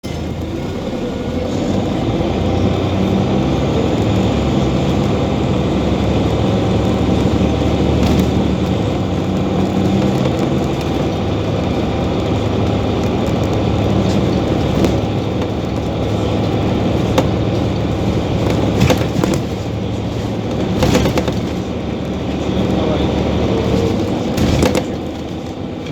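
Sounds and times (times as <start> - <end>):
bus engine shifting: 0.0 - 25.9
sharp clicks and rattles: 3.8 - 25.9.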